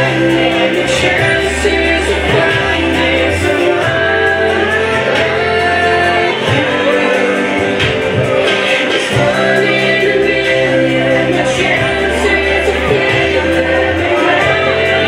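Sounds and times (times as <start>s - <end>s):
song with singing and bass: 0.0s - 15.0s.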